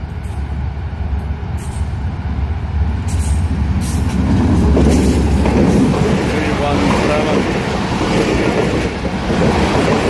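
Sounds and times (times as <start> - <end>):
diesel locomotive engine rumble: 0.0 - 10.0.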